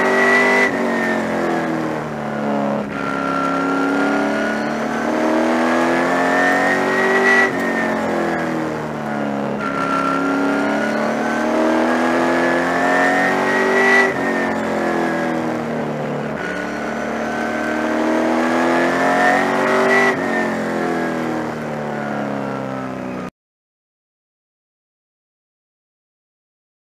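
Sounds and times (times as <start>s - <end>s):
race car engine revving: 0.0s - 23.2s.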